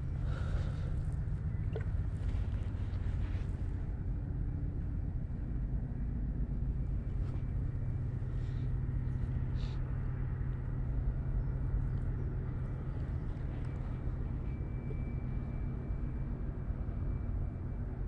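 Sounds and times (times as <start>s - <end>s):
low mechanical rumble with hum: 0.0s - 18.0s.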